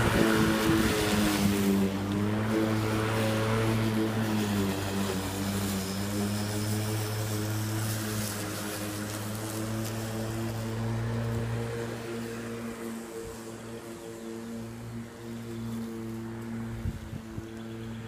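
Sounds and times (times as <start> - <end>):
electric lawn mower running: 0.0 - 18.0.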